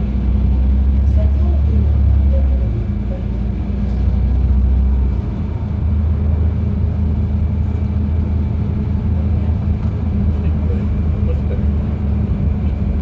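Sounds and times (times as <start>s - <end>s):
bus engine drone: 0.0s - 13.0s
road rumble: 0.0s - 13.0s.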